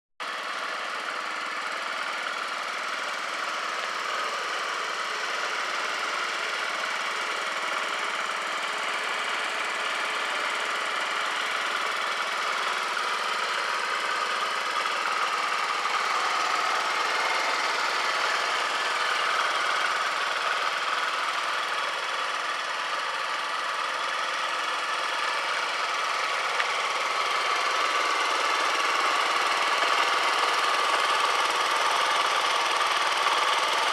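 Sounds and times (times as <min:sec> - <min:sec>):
scooter engine idling: 0:00.2 - 0:33.9.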